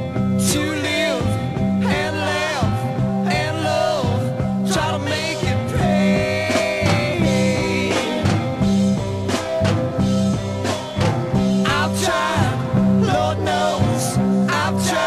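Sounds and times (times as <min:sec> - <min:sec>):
bass guitar: 0:00.0 - 0:15.0
drum kit steady beat: 0:00.0 - 0:15.0
wavering electric guitar: 0:00.0 - 0:15.0.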